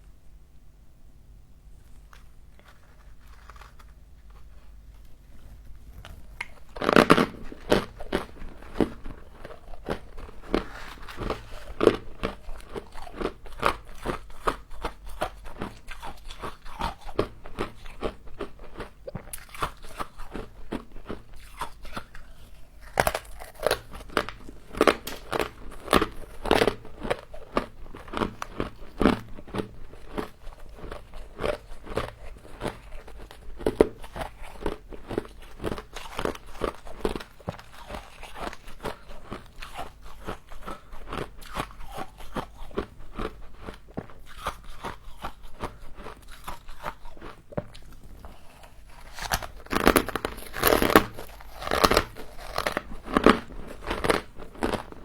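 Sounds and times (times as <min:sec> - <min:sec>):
person crunching frost: 0:01.8 - 0:55.0.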